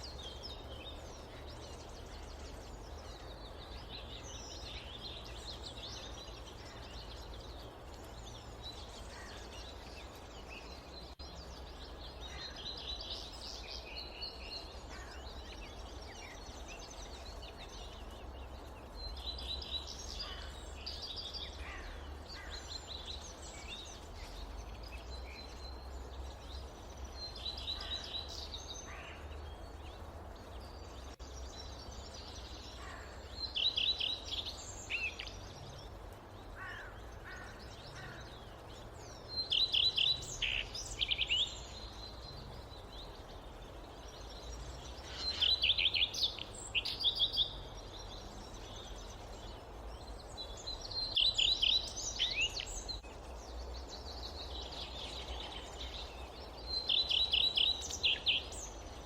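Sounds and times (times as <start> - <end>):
forest birds chirping: 0.0 - 59.0.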